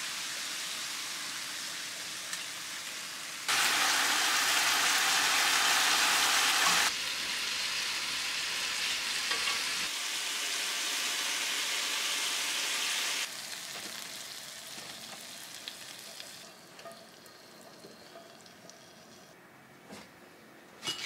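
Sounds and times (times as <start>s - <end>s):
meat sizzling in a frying pan: 0.0s - 18.4s.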